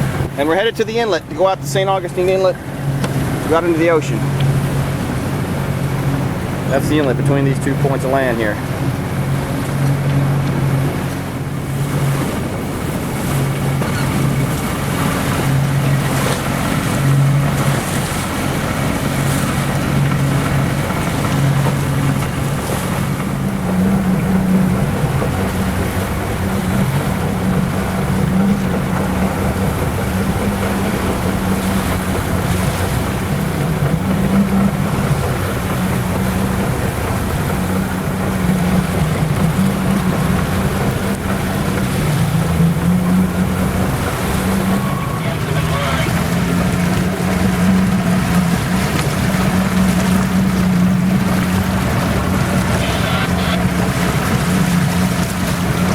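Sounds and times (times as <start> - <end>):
outboard motor running: 0.0 - 55.9
water rushing past hull: 0.0 - 55.9.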